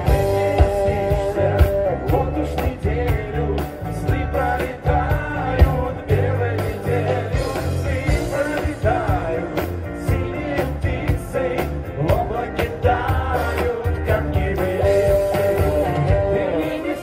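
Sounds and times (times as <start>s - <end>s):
live pop-rock band playing: 0.0s - 17.0s
steady drum beat: 0.0s - 17.0s.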